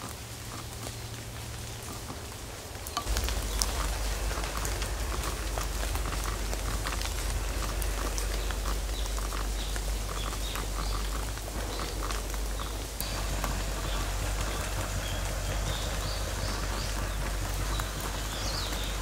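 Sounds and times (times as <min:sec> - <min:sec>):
low steady rumble: 0:00.0 - 0:19.0
rain pattering on leaves: 0:00.0 - 0:19.0.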